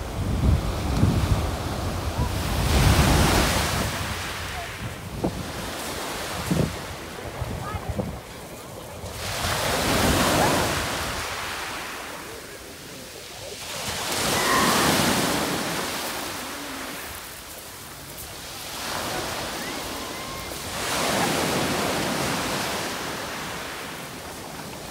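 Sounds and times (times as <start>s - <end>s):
small waves breaking on shore: 0.0s - 24.9s.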